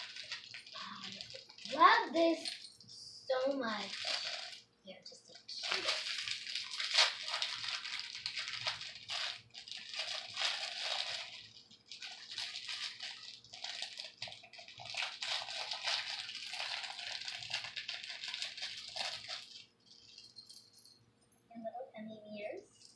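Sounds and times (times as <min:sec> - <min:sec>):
plastic bag crinkling: 0:00.0 - 0:04.7, 0:05.3 - 0:20.8.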